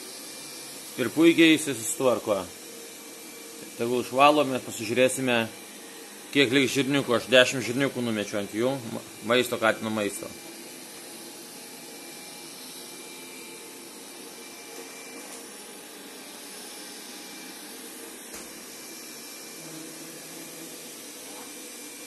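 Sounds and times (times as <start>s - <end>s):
robot vacuum running: 0.0s - 22.0s.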